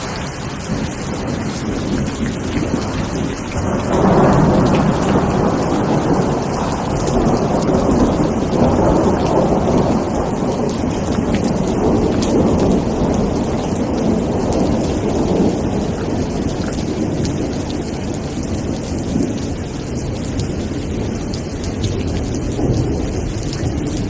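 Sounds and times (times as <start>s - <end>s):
heavy rain: 0.0s - 24.0s
low rumble of thunder: 0.0s - 24.0s
raindrop ticks: 0.0s - 24.0s.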